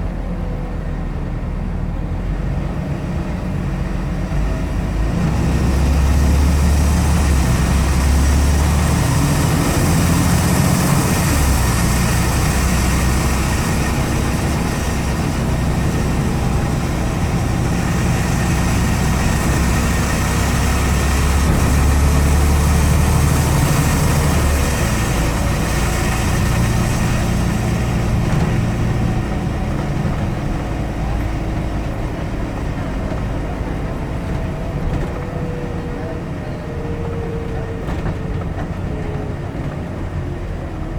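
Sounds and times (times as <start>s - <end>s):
bus engine droning: 0.0s - 40.9s
road and tyre hiss: 1.2s - 37.8s.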